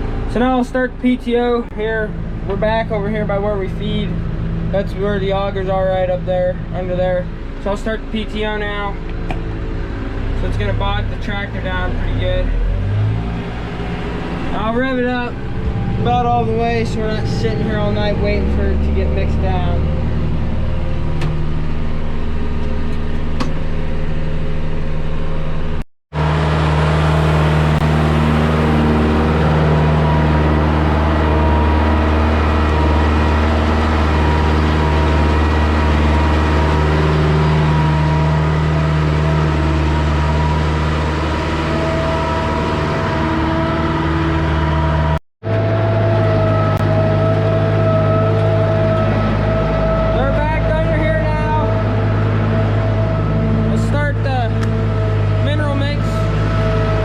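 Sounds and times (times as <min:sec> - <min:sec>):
tractor engine running at high revs: 0:00.0 - 0:57.0.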